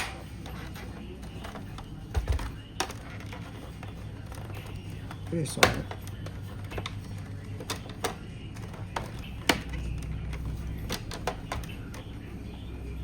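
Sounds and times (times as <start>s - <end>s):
plastic parts clicking: 0.0s - 12.2s.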